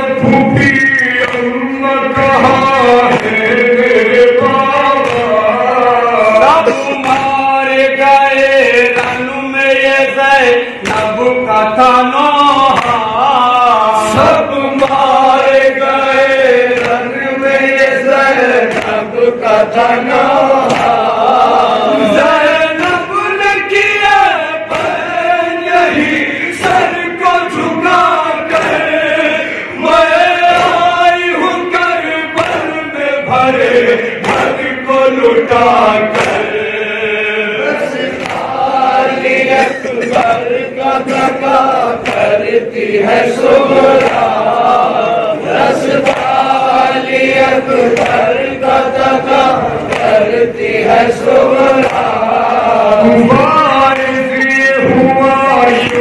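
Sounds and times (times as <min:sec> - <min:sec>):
men chanting through a microphone: 0:00.0 - 0:56.0
rhythmic sharp slaps: 0:00.0 - 0:56.0.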